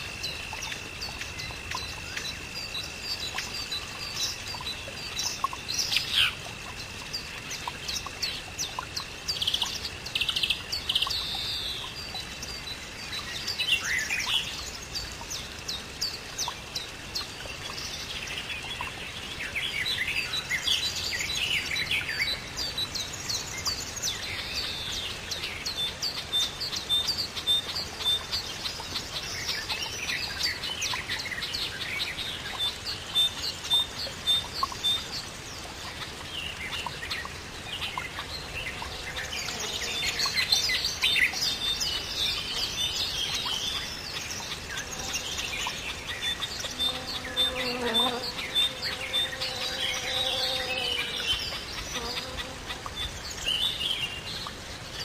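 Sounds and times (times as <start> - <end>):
songbirds chorus: 0.0 - 55.0.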